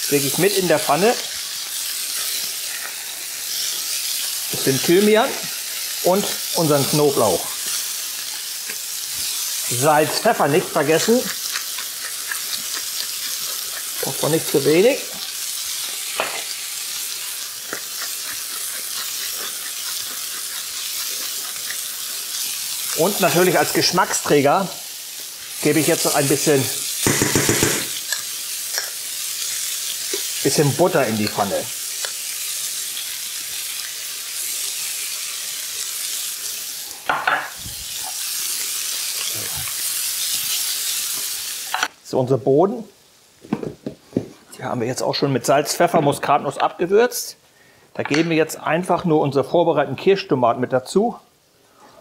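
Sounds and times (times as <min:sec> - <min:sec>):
meat sizzling in frying pan: 0:00.0 - 0:42.0.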